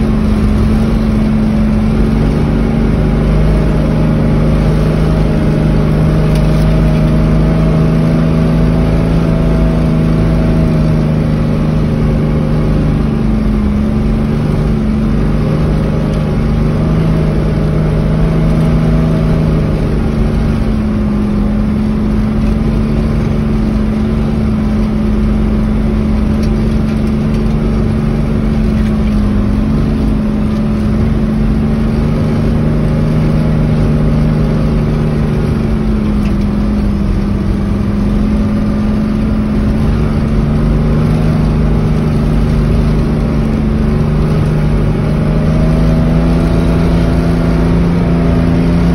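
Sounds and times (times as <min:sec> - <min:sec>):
vehicle engine drone: 0:00.0 - 0:48.9.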